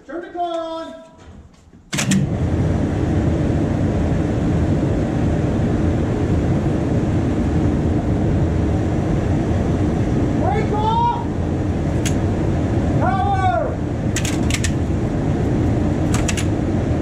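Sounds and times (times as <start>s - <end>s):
streetcar machinery rumble and hiss: 2.0s - 17.0s.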